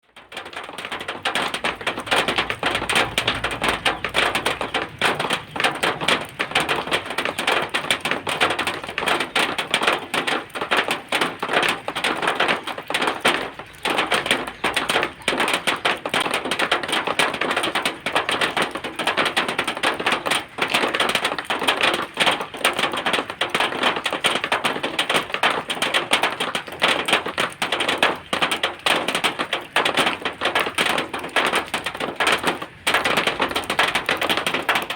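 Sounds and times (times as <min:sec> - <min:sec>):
rain on metal sheeting: 0:00.0 - 0:34.9.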